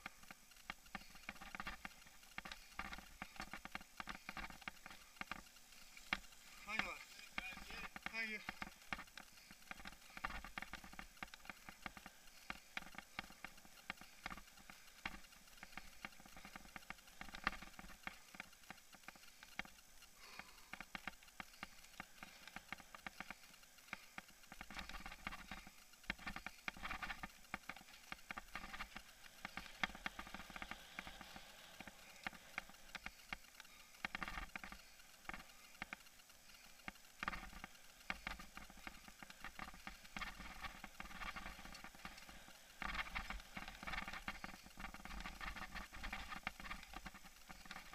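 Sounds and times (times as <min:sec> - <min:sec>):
camera rattling on bike: 0:00.0 - 0:47.9.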